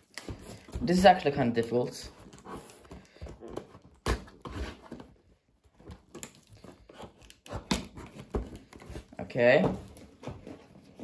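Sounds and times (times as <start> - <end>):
hands opening cardboard box: 2.0 - 11.0.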